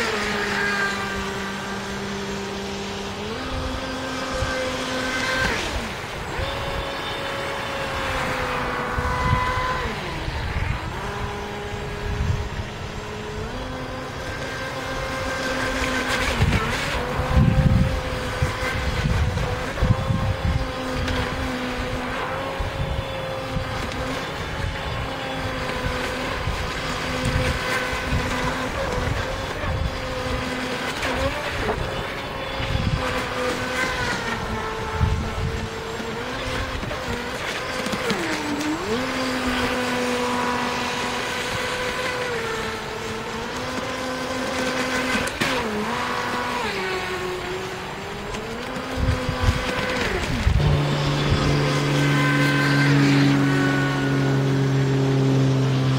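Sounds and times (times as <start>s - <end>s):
electric motor whining: 0.0s - 55.9s.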